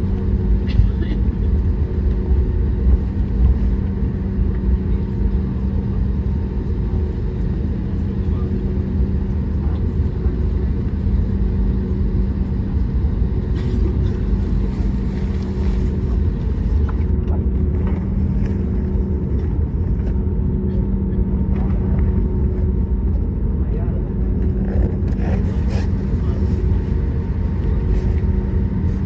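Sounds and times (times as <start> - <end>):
airplane cabin rumble: 0.0 - 29.0
constant hum: 0.0 - 29.0.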